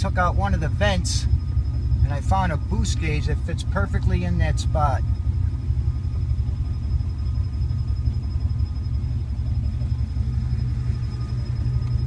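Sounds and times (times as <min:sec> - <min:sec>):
car engine idling roughly: 0:00.0 - 0:12.0
faint high turbo whistle: 0:00.0 - 0:12.0.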